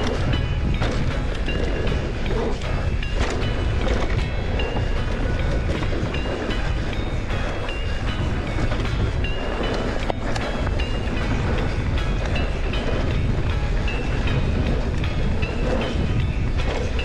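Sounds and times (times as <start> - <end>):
bike rattling over bumps: 0.0 - 17.0
wind rumble on microphone: 0.0 - 17.0.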